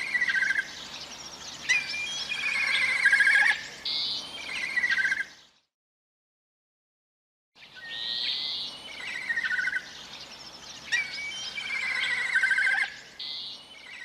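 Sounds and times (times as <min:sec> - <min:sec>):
bird of prey calling: 0:00.0 - 0:05.4, 0:07.6 - 0:14.0
faint outdoor hiss: 0:00.0 - 0:05.7, 0:07.6 - 0:14.0.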